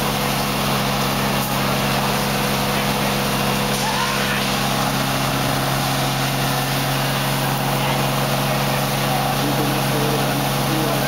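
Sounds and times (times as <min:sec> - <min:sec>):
fire engine pumps droning: 0:00.0 - 0:11.0
hissing water streams from hoses: 0:00.0 - 0:11.0.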